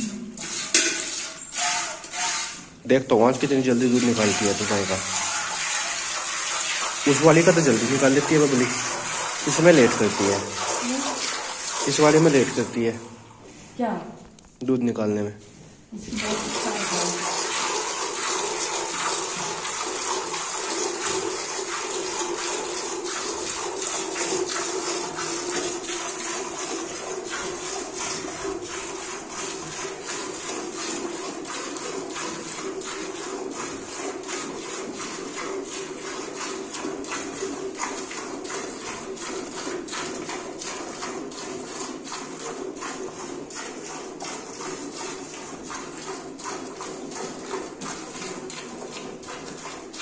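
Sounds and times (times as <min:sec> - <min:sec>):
milk squirting into metal bucket: 0:00.0 - 0:14.6, 0:16.0 - 0:50.0.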